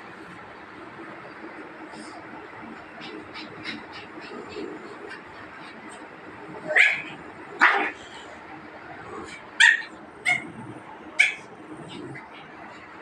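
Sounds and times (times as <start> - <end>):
dogs barking: 2.5 - 13.0.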